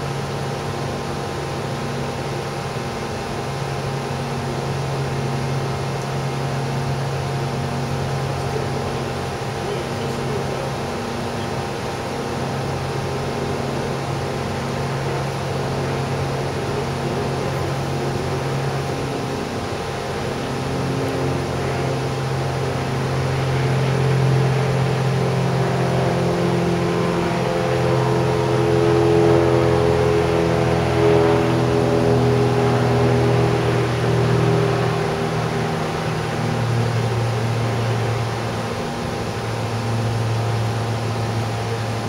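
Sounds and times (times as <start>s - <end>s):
engine drone: 0.0s - 42.0s
held humming tones: 0.0s - 42.0s.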